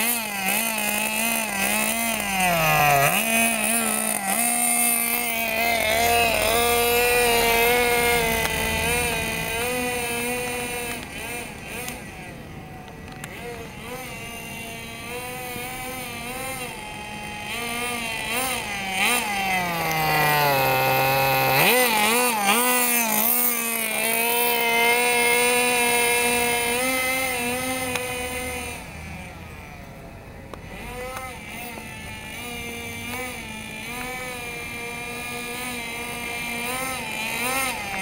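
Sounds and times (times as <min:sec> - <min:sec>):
small nitro engine revving: 0:00.0 - 0:38.0.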